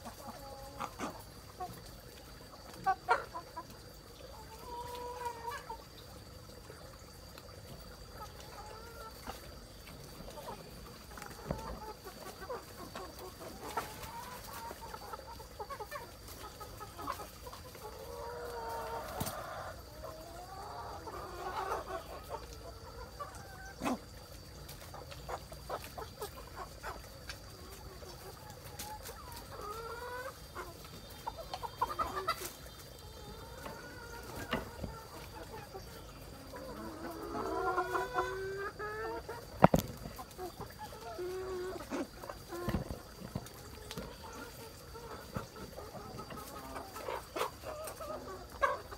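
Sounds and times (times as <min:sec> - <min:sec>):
chickens clucking and calling: 0:00.0 - 0:48.9.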